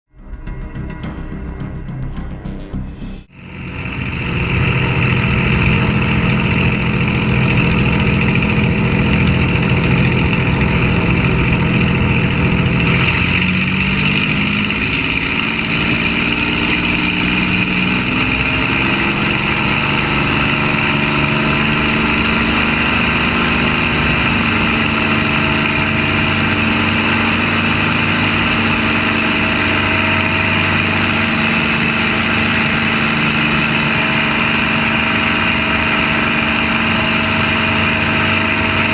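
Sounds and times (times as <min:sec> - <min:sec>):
piston aircraft engine idling: 0:00.3 - 0:38.9.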